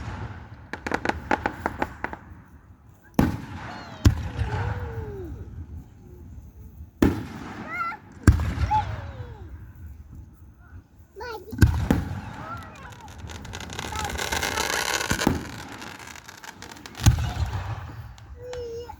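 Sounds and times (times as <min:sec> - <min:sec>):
fireworks booms with echo: 0:00.0 - 0:10.4, 0:11.4 - 0:18.9
fireworks crackling: 0:00.0 - 0:18.9.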